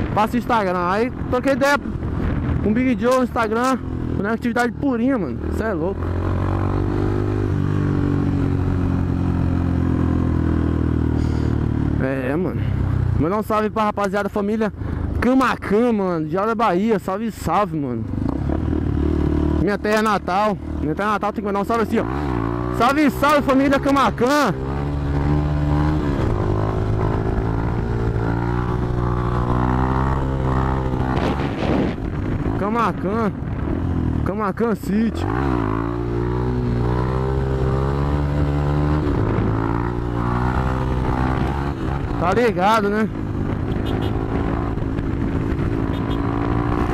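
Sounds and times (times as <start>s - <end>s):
motorcycle engine cruising: 0.0s - 46.9s.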